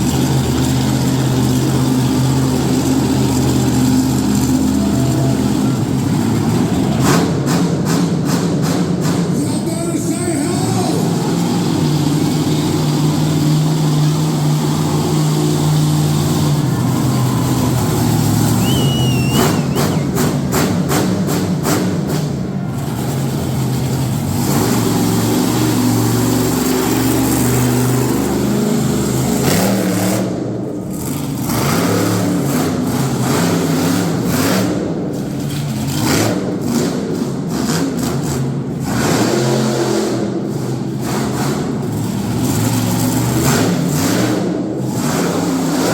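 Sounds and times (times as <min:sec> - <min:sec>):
truck engine revving: 0:00.0 - 0:45.9.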